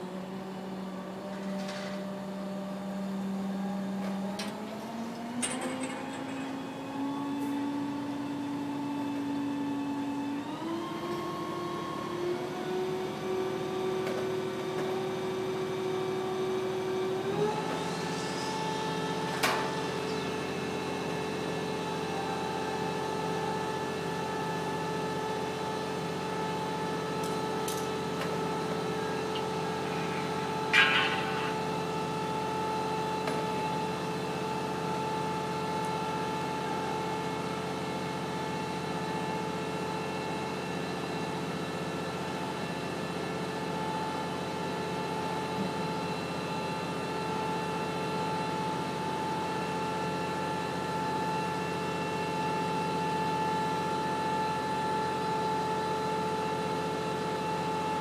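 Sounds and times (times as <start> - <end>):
motor running steadily: 0.0 - 58.0.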